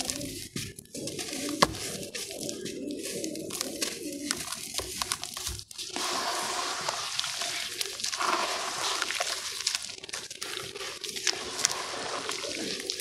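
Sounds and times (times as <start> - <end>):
gritty crackles: 0.0 - 13.0.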